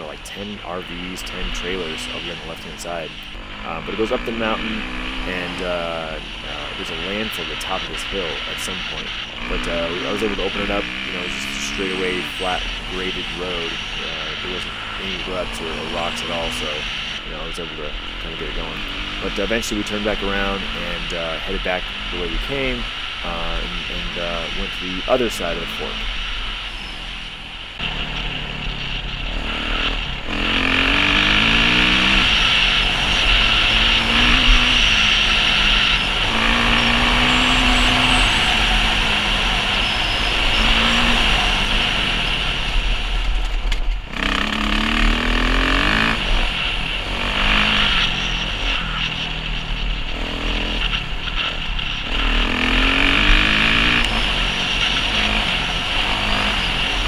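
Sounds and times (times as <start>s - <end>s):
dirt bike engine revving: 0.0s - 57.0s
steady rushing noise: 0.0s - 57.0s.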